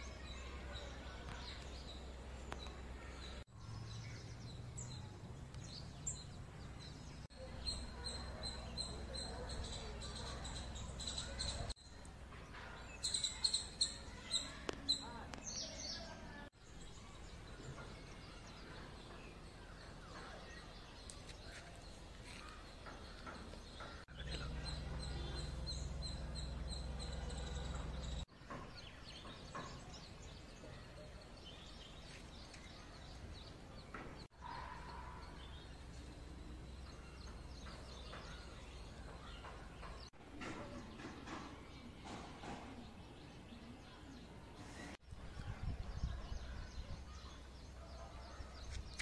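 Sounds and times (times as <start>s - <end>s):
faint outdoor background noise: 0.0s - 49.0s
small birds chirping: 0.0s - 49.0s.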